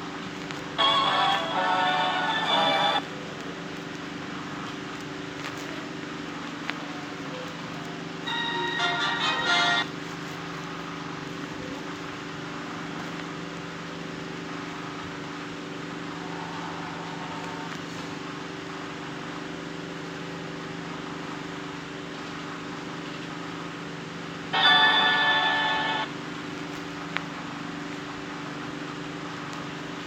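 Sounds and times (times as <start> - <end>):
low hum of held tones: 0.0 - 30.0.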